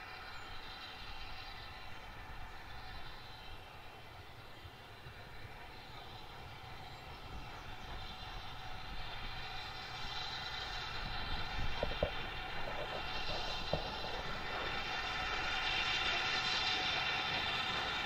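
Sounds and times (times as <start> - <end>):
steam locomotive running: 0.0 - 18.0.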